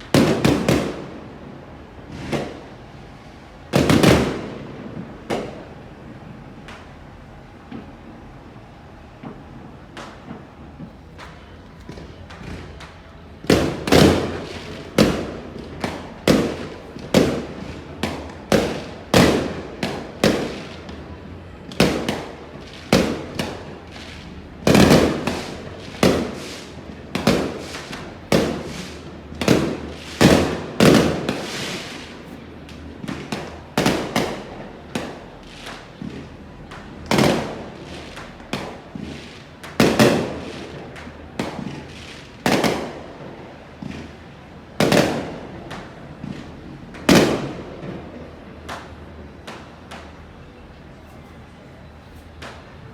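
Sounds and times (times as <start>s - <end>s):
fireworks banging: 0.0s - 51.4s, 52.2s - 52.9s.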